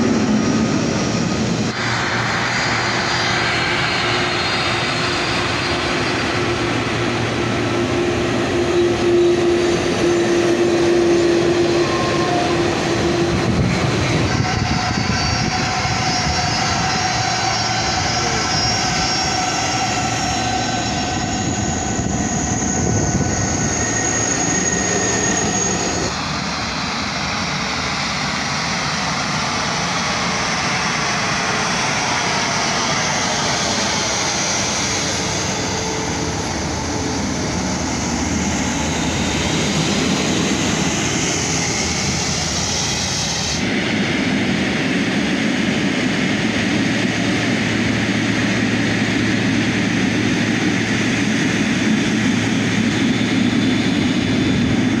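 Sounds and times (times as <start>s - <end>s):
jet engine noise close by: 0.0s - 55.0s
jet engines rushing and whining: 0.0s - 55.0s.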